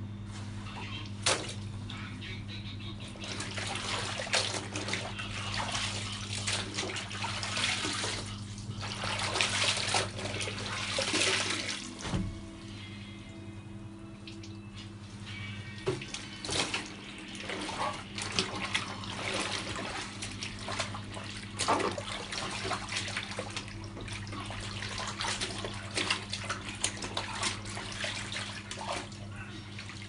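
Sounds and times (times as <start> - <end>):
steady low hum: 0.0 - 30.0
water sloshing in a plastic basin: 0.7 - 2.0, 3.1 - 12.3, 15.6 - 30.0.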